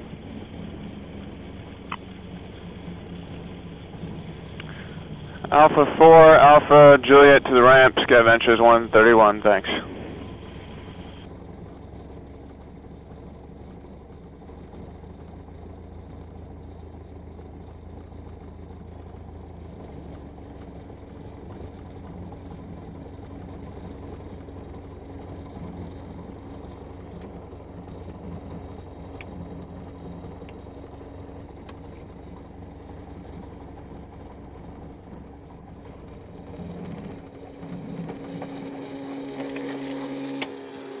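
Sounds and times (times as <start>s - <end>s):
aircraft engine running steadily: 0.0s - 41.0s.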